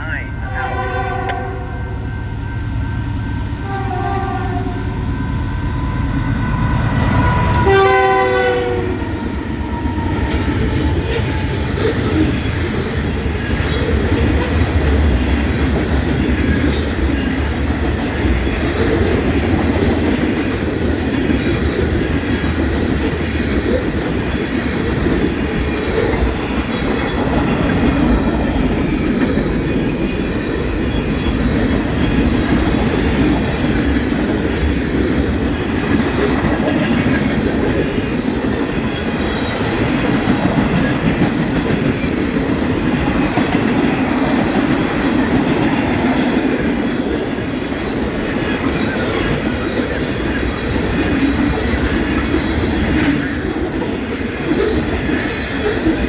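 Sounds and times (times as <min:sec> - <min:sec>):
freight train cars rolling: 0:00.2 - 0:56.0.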